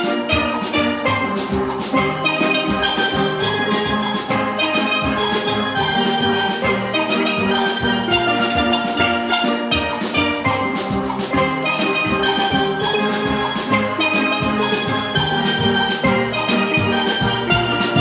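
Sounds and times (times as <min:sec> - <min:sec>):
drum and percussion rhythm: 0:00.0 - 0:18.0
steelpans playing: 0:00.0 - 0:18.0.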